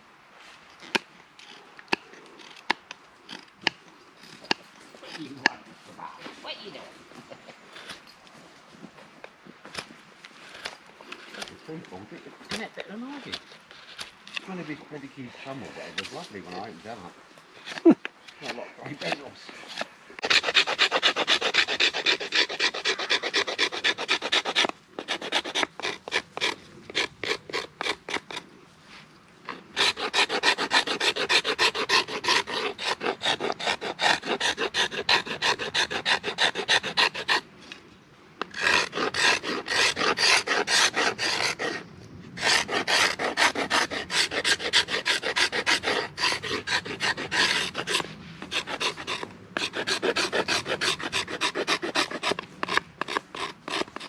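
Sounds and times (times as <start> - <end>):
hand tool scraping on wood: 0.8 - 5.6, 7.4 - 8.2, 9.7 - 37.8, 38.4 - 54.0.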